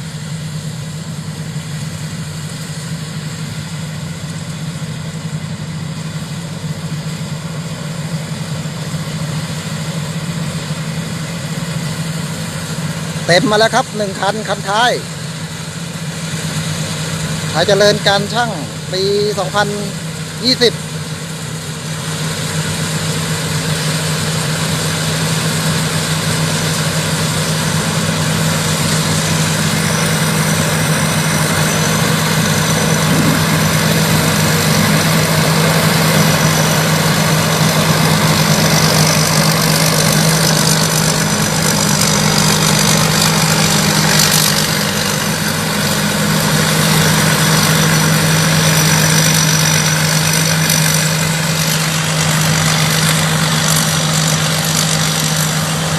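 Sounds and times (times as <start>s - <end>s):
combine harvester droning: 0.0s - 55.9s.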